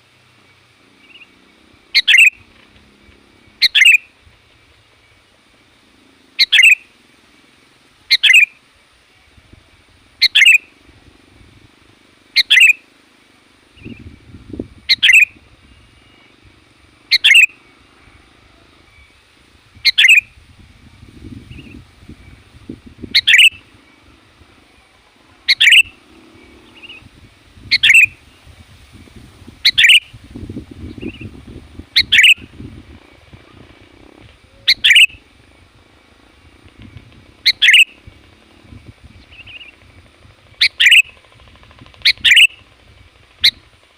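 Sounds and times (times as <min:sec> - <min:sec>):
bulbul sharply rising call: 0:00.4 - 0:04.2, 0:05.0 - 0:08.6, 0:10.2 - 0:10.8, 0:12.2 - 0:12.9, 0:13.6 - 0:43.9.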